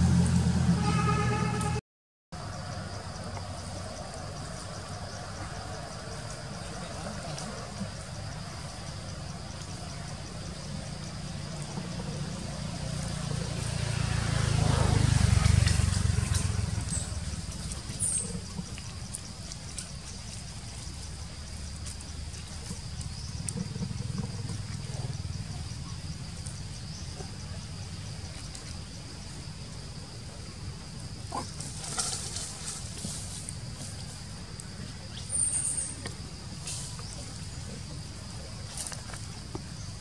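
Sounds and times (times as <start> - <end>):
vehicle passing rumble: 0.0 - 1.8, 2.4 - 40.0
high insect drone: 2.4 - 40.0.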